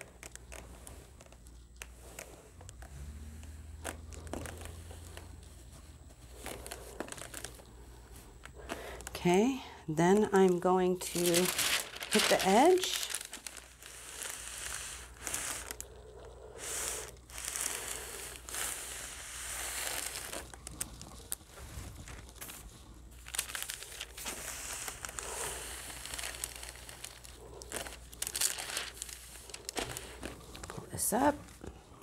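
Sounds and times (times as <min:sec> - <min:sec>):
plastic sheet crinkling: 0:03.4 - 0:16.0, 0:16.6 - 0:31.6.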